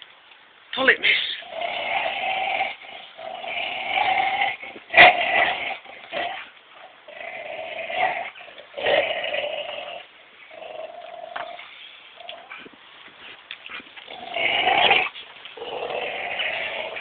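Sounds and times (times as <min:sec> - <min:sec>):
dog play-growling: 0:01.4 - 0:17.0.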